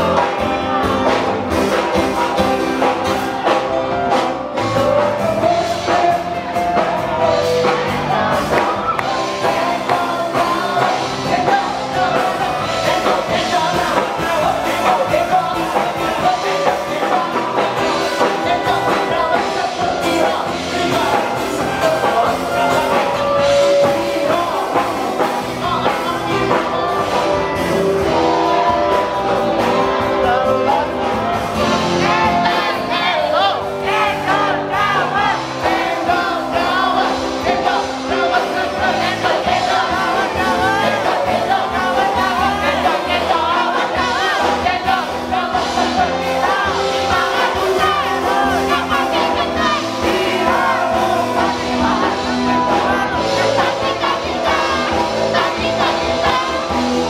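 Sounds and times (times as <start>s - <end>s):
backing music: 0.0s - 57.0s
person singing into a microphone: 0.0s - 57.0s.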